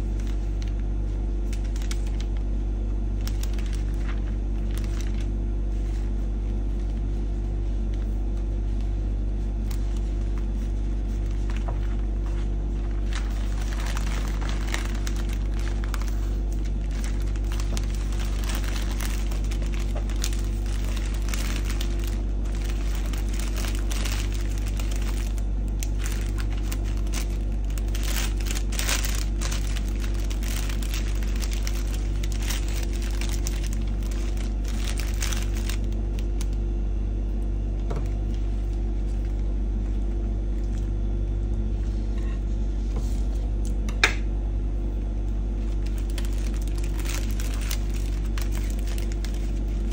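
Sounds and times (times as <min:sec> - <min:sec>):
wrapping paper crinkling: 0:00.0 - 0:36.6, 0:38.0 - 0:41.0, 0:45.4 - 0:49.9
steady low hum: 0:00.0 - 0:49.9.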